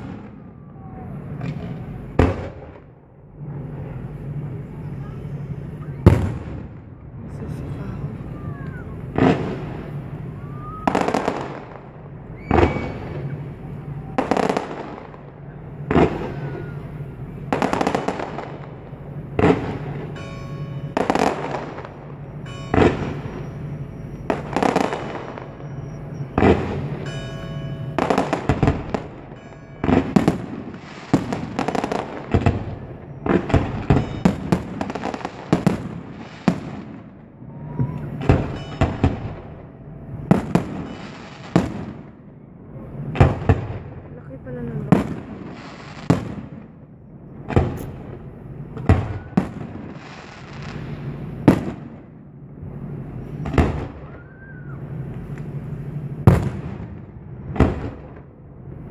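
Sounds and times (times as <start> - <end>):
fireworks bursting: 0.0 - 58.9
fireworks crackling: 0.0 - 58.9.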